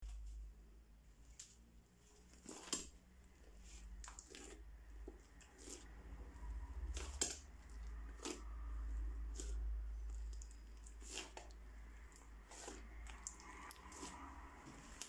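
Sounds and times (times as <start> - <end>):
slime squishing and crackling: 2.1 - 15.0.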